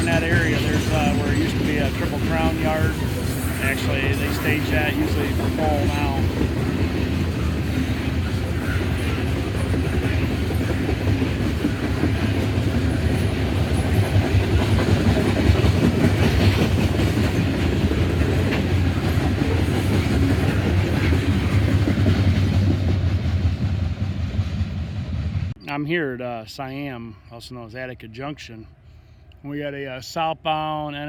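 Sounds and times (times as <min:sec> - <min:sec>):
train wheels rumbling on rail: 0:00.0 - 0:25.6.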